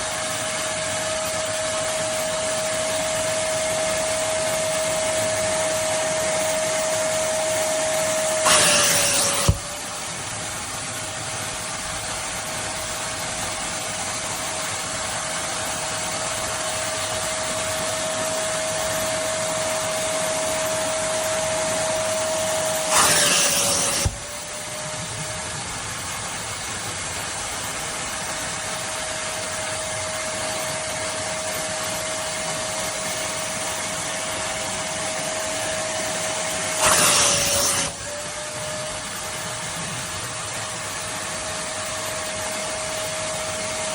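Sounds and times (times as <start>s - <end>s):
wet dry vacuum cleaner running: 0.0s - 43.9s.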